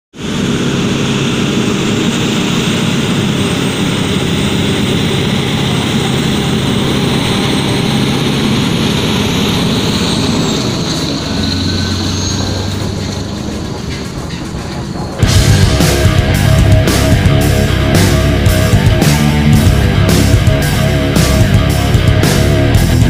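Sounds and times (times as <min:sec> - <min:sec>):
road noise: 0:00.1 - 0:23.0
truck diesel engine running: 0:00.2 - 0:23.0.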